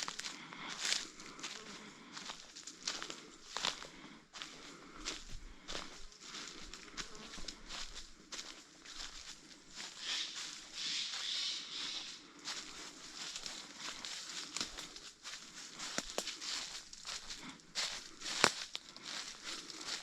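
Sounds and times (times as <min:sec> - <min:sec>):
footsteps crunching through leaves: 0:00.0 - 0:20.0.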